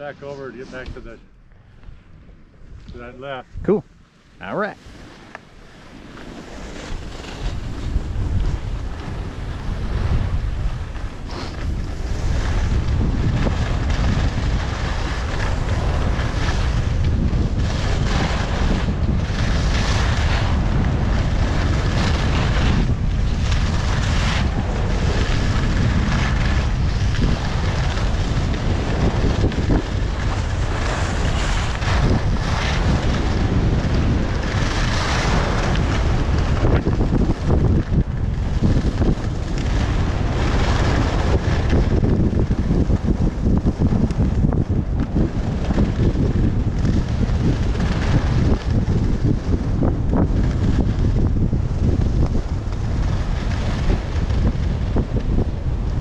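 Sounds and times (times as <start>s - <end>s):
skis scraping on snow: 0.0s - 1.3s, 2.7s - 56.0s
wind buffeting microphone: 0.0s - 56.0s.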